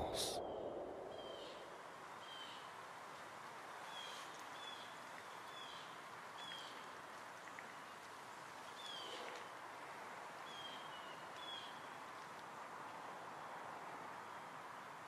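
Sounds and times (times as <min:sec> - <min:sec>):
forest ambience hiss: 0:00.0 - 0:15.0.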